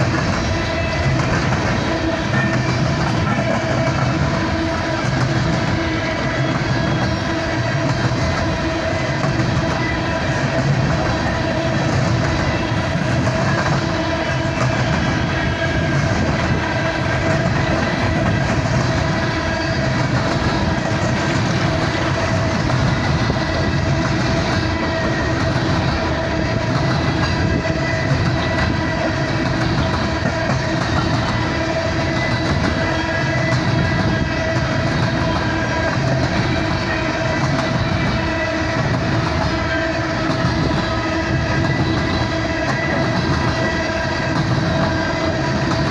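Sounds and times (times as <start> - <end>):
freight wheels rumbling on rail: 0.0 - 45.9.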